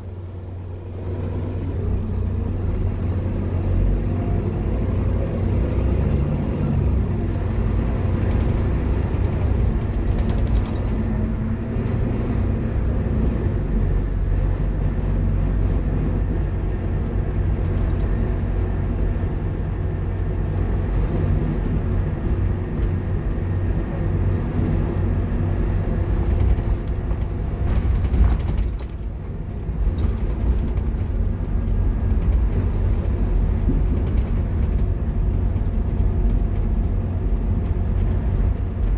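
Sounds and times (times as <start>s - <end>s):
bus diesel engine droning: 0.0s - 38.9s
road noise: 0.0s - 38.9s.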